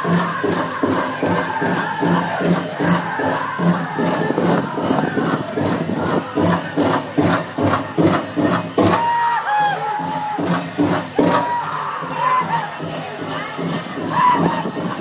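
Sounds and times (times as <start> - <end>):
singers holding high notes: 0.0 - 6.5, 9.0 - 14.8
jingling bells: 0.0 - 15.0
steady drumbeat: 0.0 - 15.0.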